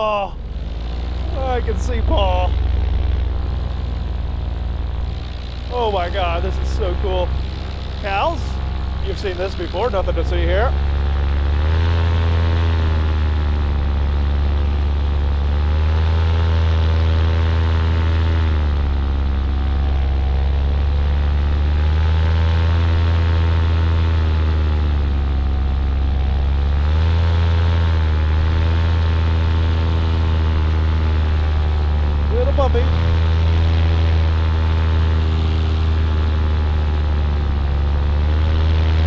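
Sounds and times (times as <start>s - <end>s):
paramotor engine running: 0.0s - 39.0s.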